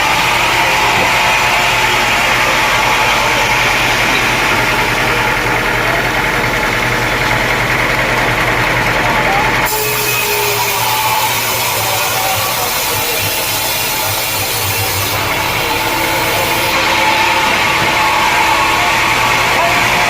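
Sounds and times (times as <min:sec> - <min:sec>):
sawmill engine whining: 0:00.0 - 0:20.0.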